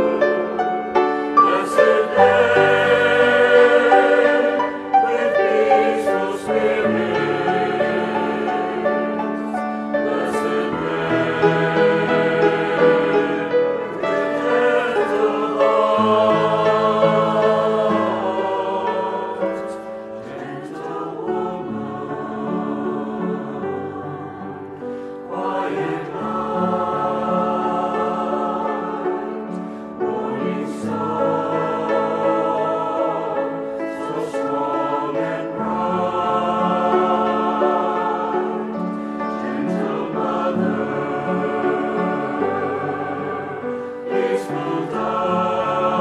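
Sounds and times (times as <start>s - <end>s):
choir singing a hymn: 0.0s - 46.0s.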